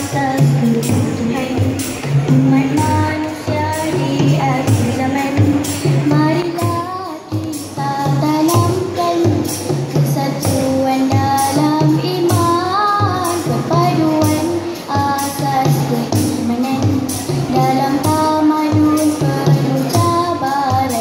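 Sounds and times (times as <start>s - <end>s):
girls singing together: 0.0s - 21.0s
hand drum beat: 0.0s - 21.0s.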